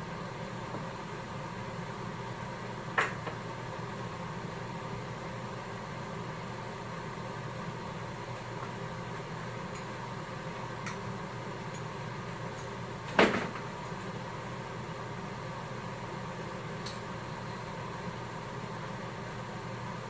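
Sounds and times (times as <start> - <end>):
workshop hum and hiss: 0.0 - 20.0.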